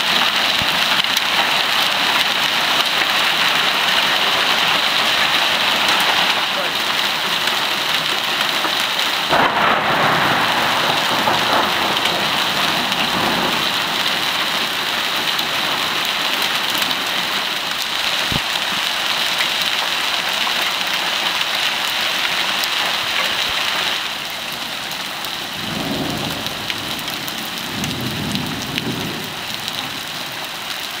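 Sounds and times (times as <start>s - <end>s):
hail and rain pelting pavement: 0.0s - 31.0s.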